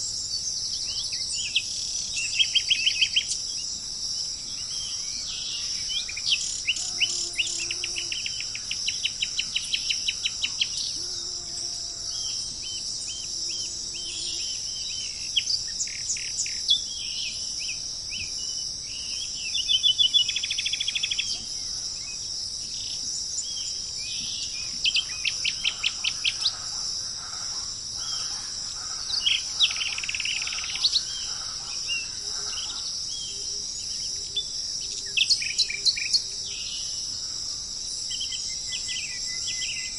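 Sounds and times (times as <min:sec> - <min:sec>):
birds calling and singing: 0:00.0 - 0:11.3, 0:12.1 - 0:37.3
insects chirping: 0:00.0 - 0:39.9.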